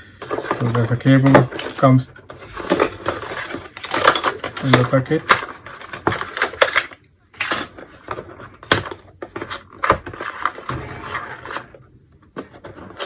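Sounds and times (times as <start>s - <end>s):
hands handling small packaging: 0.0s - 10.6s.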